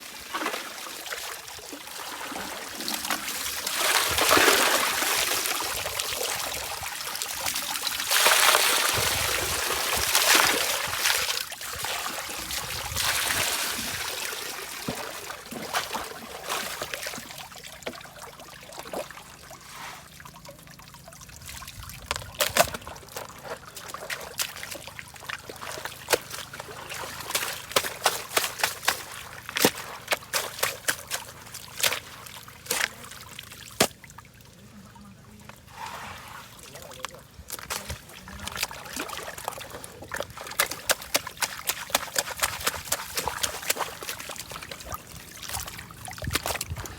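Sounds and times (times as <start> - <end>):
water sloshing and trickling: 0.0 - 46.9.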